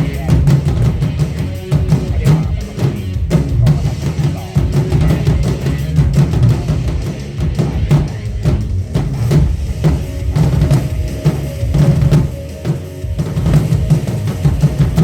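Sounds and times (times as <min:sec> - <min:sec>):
drum kit beat: 0:00.0 - 0:15.0
heavy bass line: 0:00.0 - 0:15.0.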